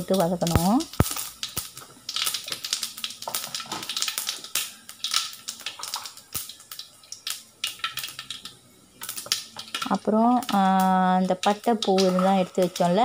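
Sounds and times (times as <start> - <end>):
seeds crackling in hot oil: 0.0 - 13.0.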